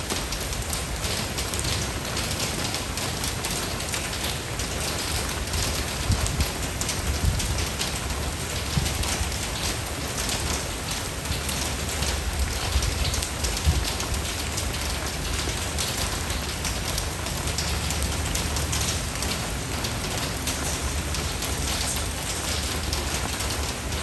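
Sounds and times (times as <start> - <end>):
low rain rumble: 0.0 - 24.0
raindrops pattering: 0.0 - 24.0.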